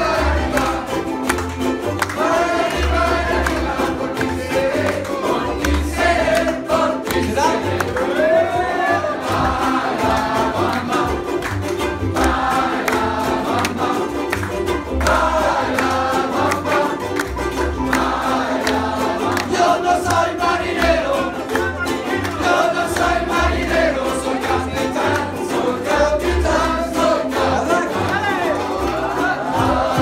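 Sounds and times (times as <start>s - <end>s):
double bass: 0.0s - 30.0s
group singing: 0.0s - 30.0s
ukulele ensemble strumming: 0.0s - 30.0s.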